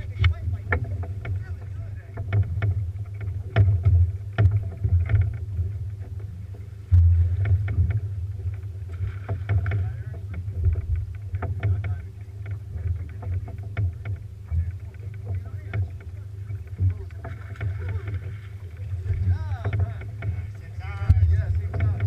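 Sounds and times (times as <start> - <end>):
low rumble: 0.0 - 22.0
water slapping against hull: 0.0 - 22.0.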